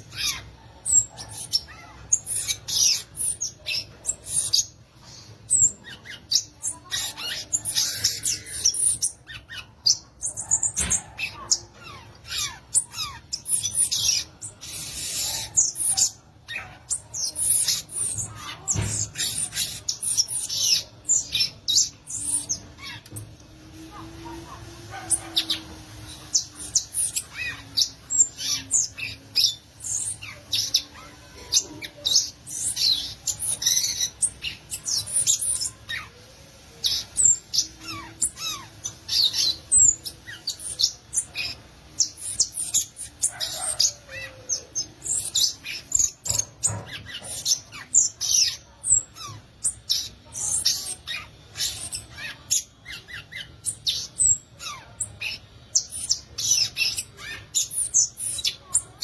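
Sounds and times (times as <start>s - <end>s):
bird singing high sharp chips: 0.0s - 59.0s.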